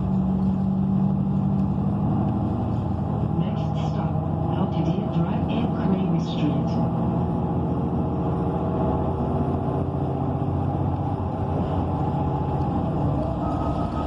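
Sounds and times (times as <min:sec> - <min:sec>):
bus engine drone: 0:00.0 - 0:14.0.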